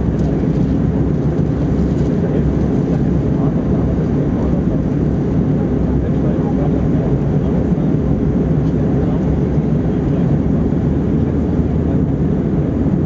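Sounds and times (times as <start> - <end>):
aircraft cabin engine roar: 0.0 - 13.0.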